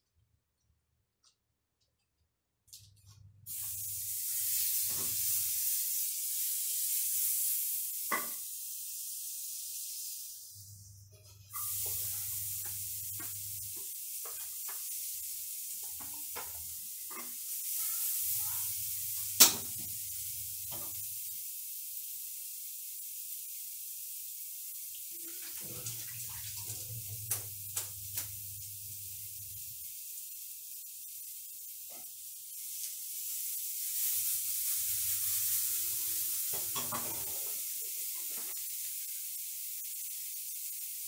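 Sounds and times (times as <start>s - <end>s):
butter sizzling in frying pan: 3.5s - 41.0s.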